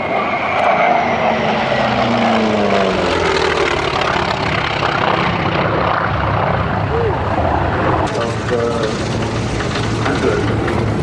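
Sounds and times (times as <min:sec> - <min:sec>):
propeller aircraft flying past: 0:00.0 - 0:11.0.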